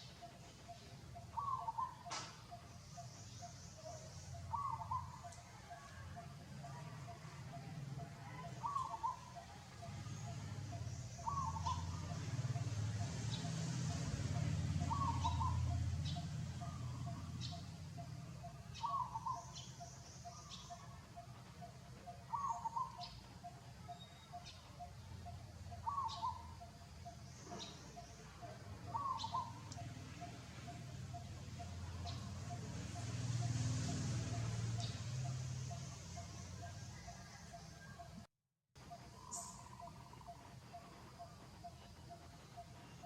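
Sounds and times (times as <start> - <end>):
bird calling: 0.0 - 12.8, 14.3 - 38.1, 38.9 - 43.0.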